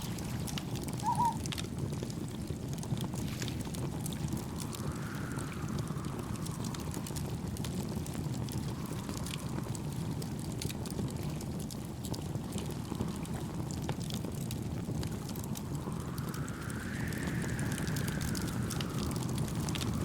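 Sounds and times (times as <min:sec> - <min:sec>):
campfire crackling and popping: 0:00.0 - 0:20.0
waves: 0:00.0 - 0:20.0
wind: 0:00.0 - 0:20.0.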